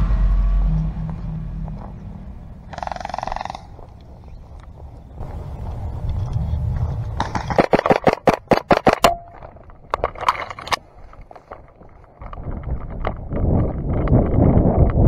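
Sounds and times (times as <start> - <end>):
rustling on dry ground: 0.1 - 14.2.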